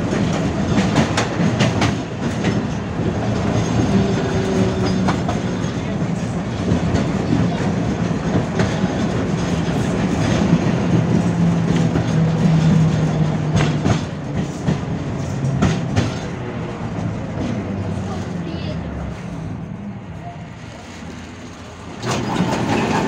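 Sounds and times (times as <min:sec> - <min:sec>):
wheels clacking over rail joints: 0:00.0 - 0:18.3, 0:20.8 - 0:23.0
tram wheels rumbling on rail: 0:00.0 - 0:23.0.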